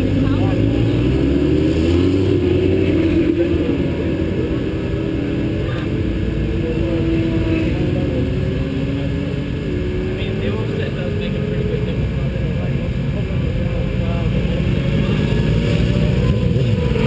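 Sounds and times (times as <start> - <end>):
vehicle engine at speed: 0.0 - 17.0.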